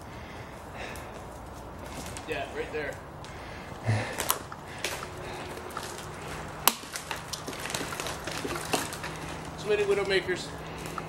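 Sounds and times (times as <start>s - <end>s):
tree trunk creaking and crackling: 0.0s - 11.0s
sharp wood crack: 0.8s - 11.0s.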